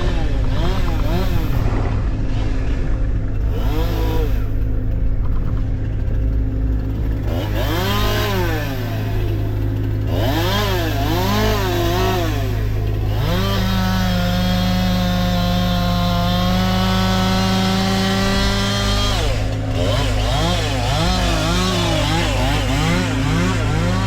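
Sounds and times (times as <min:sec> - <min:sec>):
chainsaw engine revving: 0:00.0 - 0:24.0.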